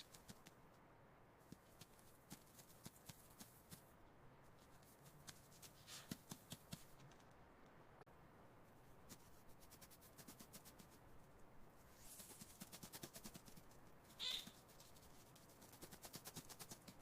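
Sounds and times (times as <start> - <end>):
faint scratching and ticking: 0.0 - 0.8, 1.4 - 7.8, 8.6 - 17.0.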